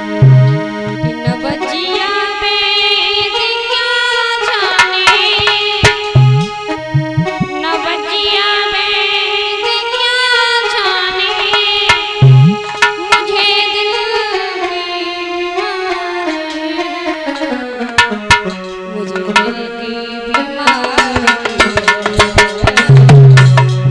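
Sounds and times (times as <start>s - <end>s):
harmonium tones: 0.0s - 23.9s
person folk singing: 0.0s - 23.9s.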